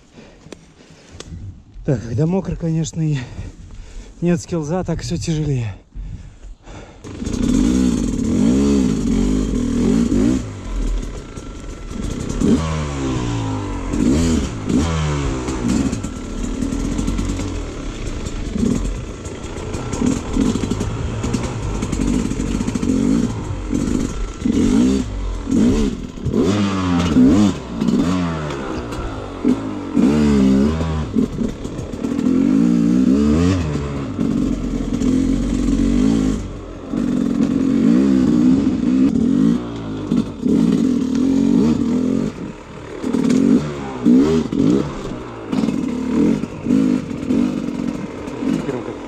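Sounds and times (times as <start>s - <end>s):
motorcycle engine revving: 6.7s - 49.0s.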